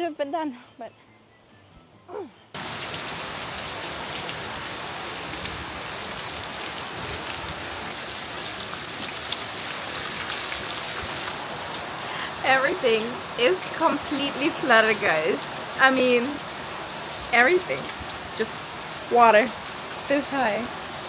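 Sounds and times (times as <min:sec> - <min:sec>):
heavy rain on pavement: 0:02.6 - 0:21.0.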